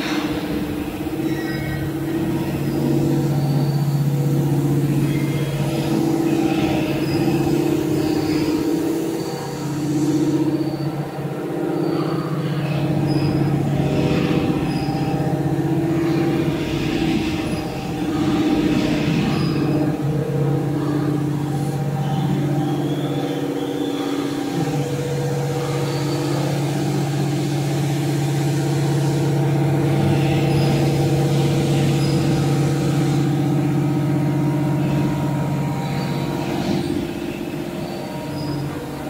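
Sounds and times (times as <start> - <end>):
factory machinery drone: 0.0 - 39.0.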